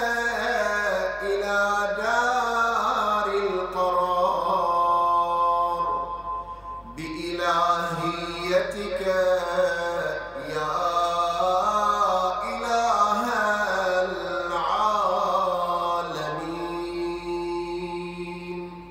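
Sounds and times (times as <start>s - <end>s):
man chanting melodic prayer: 0.0s - 18.9s.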